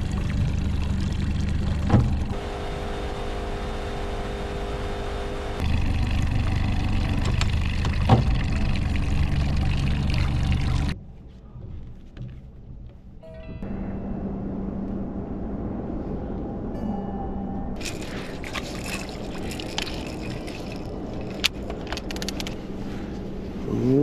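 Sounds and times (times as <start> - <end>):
boat motor running: 0.0 - 11.0, 13.9 - 24.0.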